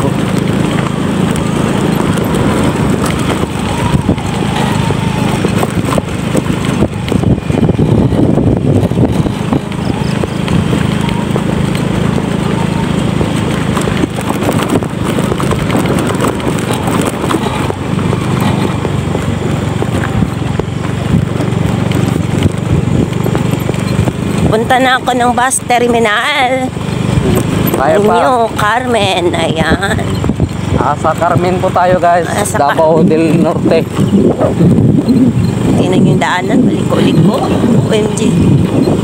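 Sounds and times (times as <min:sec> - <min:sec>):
knocks and rattles on rough road: 0:00.0 - 0:39.0
motorcycle engine running: 0:00.0 - 0:39.0.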